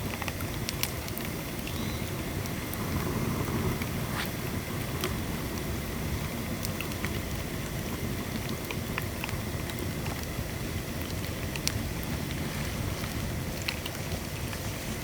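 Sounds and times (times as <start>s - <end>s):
fire rumbling: 0.0s - 15.0s.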